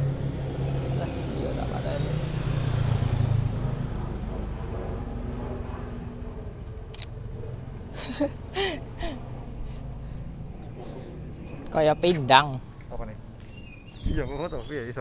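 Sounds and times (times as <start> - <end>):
motorcycle engine passing: 0.0 - 13.6.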